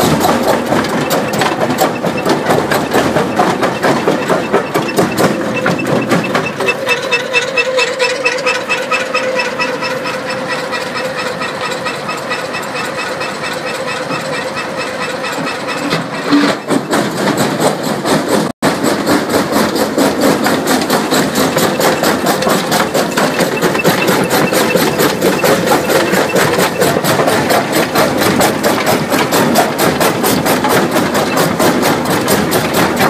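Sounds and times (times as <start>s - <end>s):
crusher rapid knocking: 0.0s - 33.0s
engine drone: 0.0s - 33.0s.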